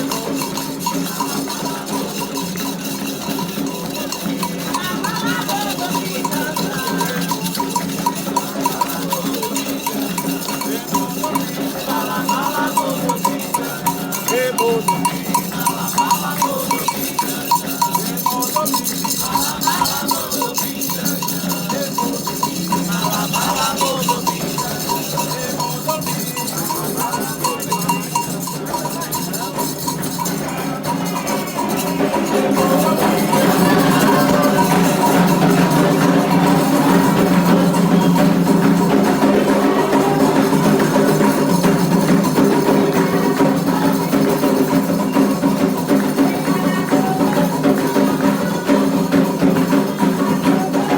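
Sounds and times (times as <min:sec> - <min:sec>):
metal bell struck in a pattern: 0:00.0 - 0:50.9
voices singing: 0:00.0 - 0:50.9.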